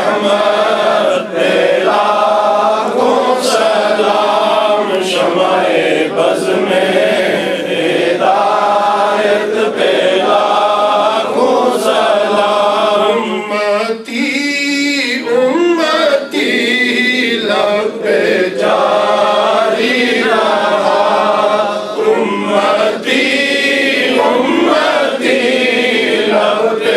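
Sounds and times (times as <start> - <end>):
men chanting a hymn: 0.0 - 26.9.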